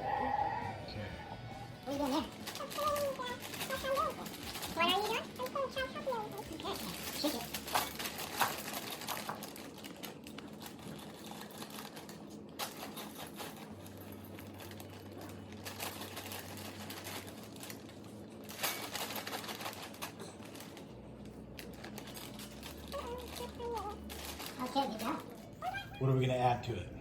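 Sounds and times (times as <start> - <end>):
crunchy noodles rattling in bowl: 1.8 - 26.0.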